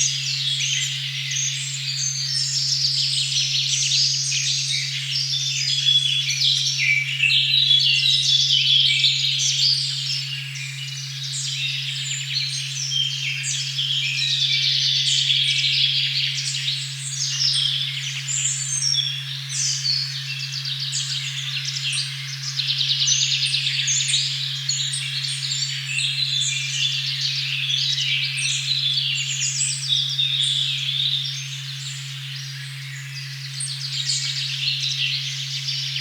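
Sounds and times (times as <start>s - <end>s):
birds singing in chorus: 0.0s - 36.0s.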